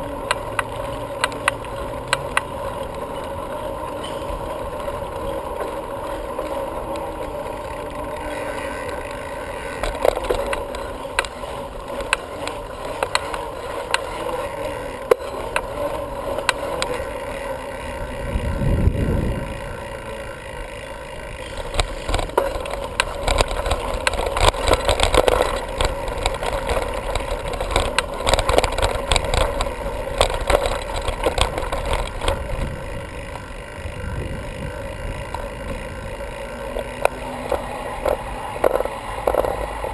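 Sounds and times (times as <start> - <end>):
bicycle clicks and knocks: 0.0 - 39.9
bicycle rolling hum: 0.0 - 39.9.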